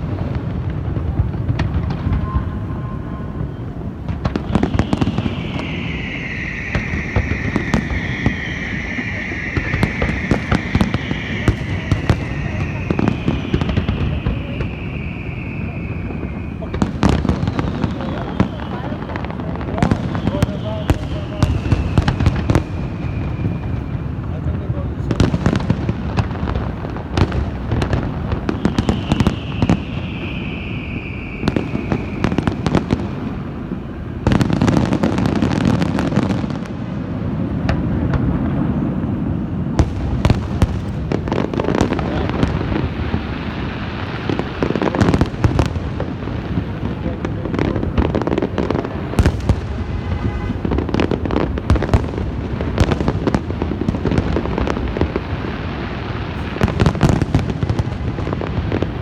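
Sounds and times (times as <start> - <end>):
falling firework whistle: 0.0 - 59.0
fireworks bangs and crackling: 0.0 - 59.0.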